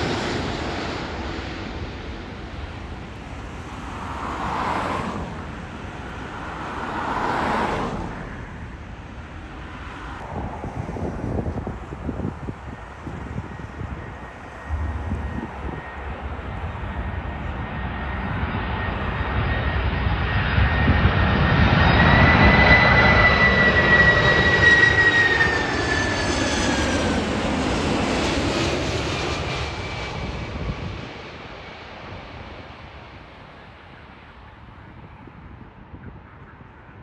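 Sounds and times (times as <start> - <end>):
jet airliner passing overhead: 0.0 - 37.0.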